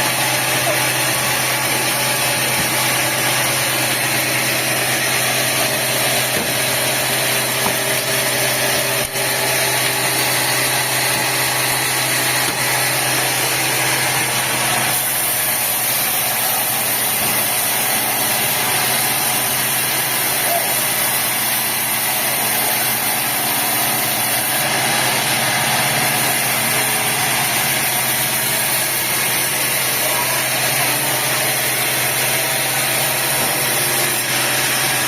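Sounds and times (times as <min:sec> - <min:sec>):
sawmill machinery humming: 0:00.0 - 0:35.0.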